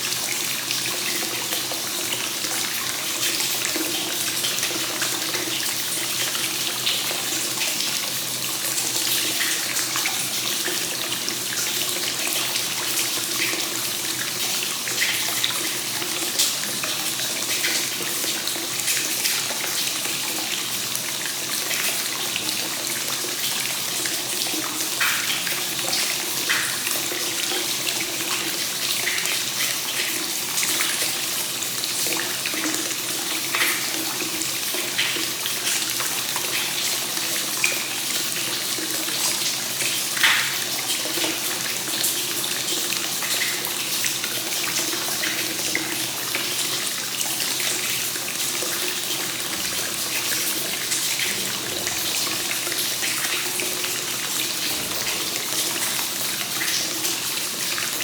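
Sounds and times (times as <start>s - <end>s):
water flowing into a bath: 0.0s - 58.0s.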